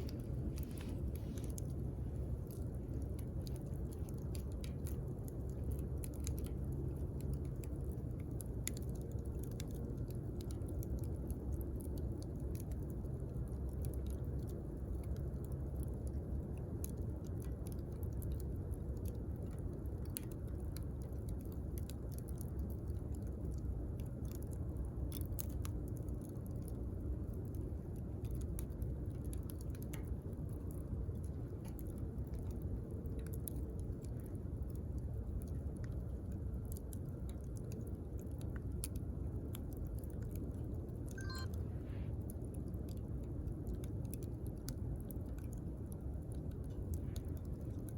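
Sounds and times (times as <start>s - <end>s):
burning wood crackling and popping: 0.0s - 41.4s, 42.1s - 47.9s.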